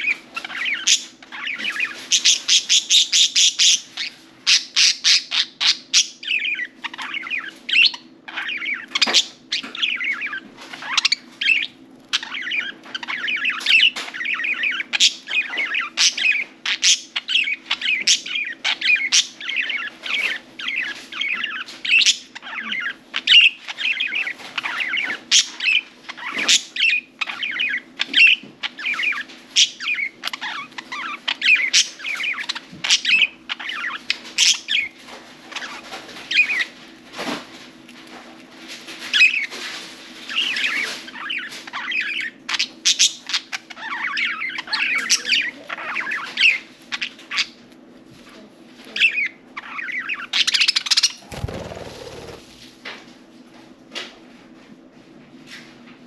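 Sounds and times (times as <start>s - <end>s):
budgerigars chirping: 0.0s - 36.8s, 40.3s - 47.6s, 49.0s - 52.4s.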